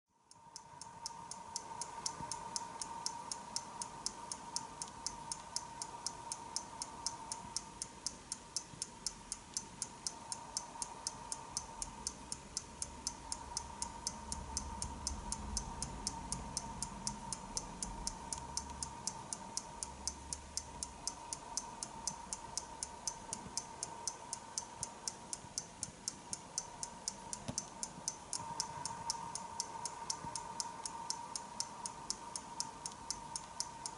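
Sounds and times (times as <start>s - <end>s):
pendulum clock ticking: 0.2s - 33.9s.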